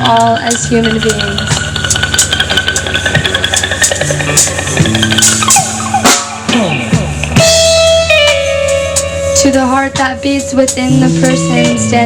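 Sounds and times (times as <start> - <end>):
live band playing instrumental: 0.0 - 12.0.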